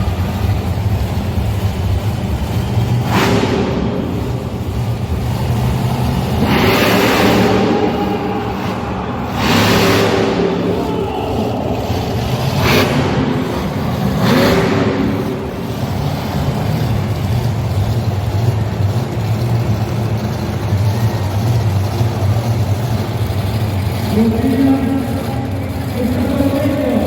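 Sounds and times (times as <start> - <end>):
loud bursts of noise: 0.0 - 27.0
vehicle engine running low: 0.0 - 27.0.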